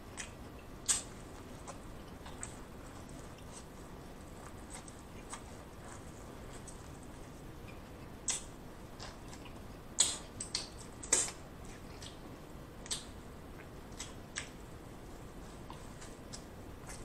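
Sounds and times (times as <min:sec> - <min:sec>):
biting and chewing corn: 0:00.1 - 0:14.6.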